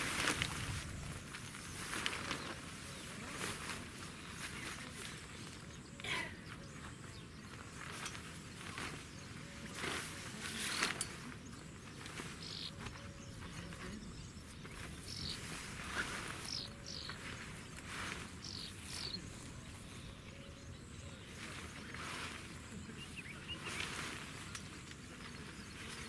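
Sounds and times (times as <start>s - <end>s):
gazebo canopy rustling: 0.0s - 26.0s
small birds chirping: 0.0s - 26.0s.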